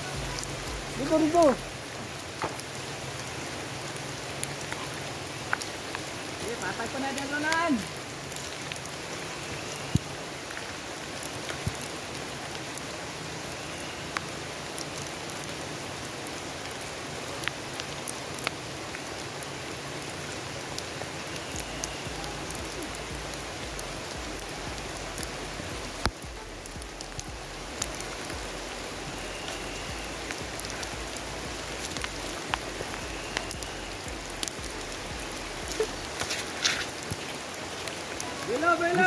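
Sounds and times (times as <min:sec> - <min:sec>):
sharp rain taps: 0:00.0 - 0:13.4, 0:14.1 - 0:39.0
steady rain hiss: 0:00.0 - 0:39.0.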